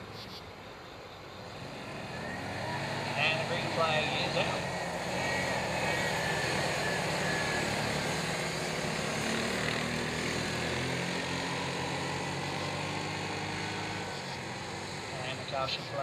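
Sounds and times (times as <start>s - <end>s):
atv engines racing: 1.4s - 16.0s.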